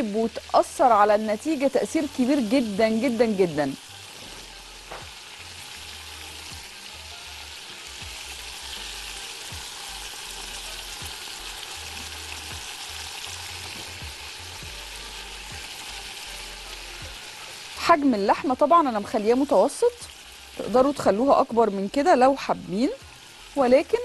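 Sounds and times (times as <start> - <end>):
beef sizzling in hot butter: 0.0 - 24.0.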